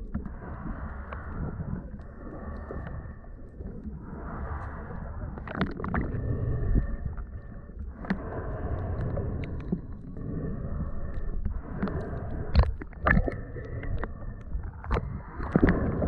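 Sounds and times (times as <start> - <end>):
muffled water sloshing: 0.0 - 16.0.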